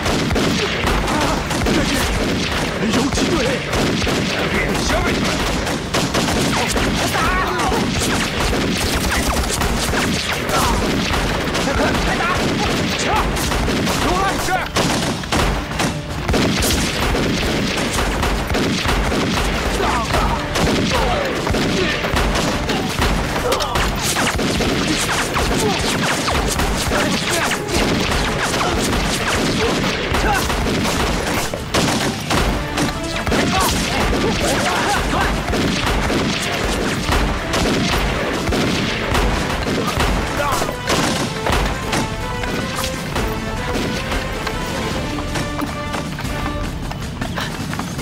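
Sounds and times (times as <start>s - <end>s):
dramatic music score: 0.0s - 48.0s
rapid gunfire: 0.0s - 48.0s.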